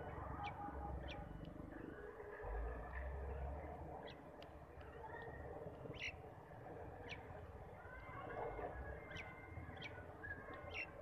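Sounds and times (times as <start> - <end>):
birds chirping: 0.0 - 2.5, 3.2 - 8.2, 8.8 - 11.0
low steady rumble: 0.0 - 11.0.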